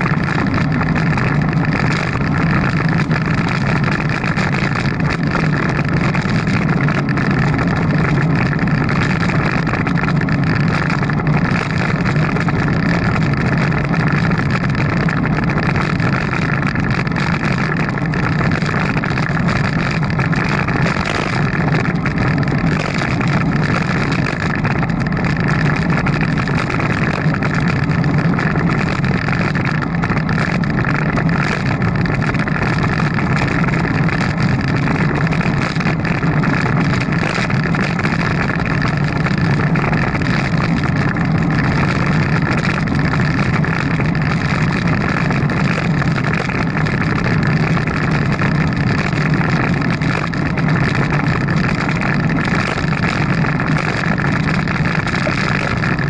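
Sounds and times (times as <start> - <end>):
bicycle riding rumble: 0.0 - 56.0
wind on microphone: 0.0 - 56.0.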